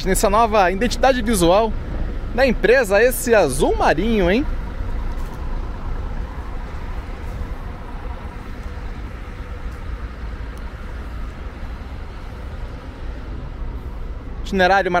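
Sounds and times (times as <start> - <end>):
diesel bus engine passing: 0.0 - 15.0.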